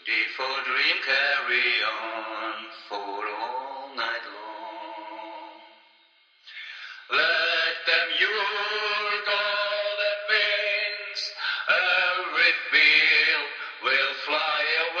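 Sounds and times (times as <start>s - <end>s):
chant-like singing with music: 0.0s - 5.8s, 6.5s - 15.0s.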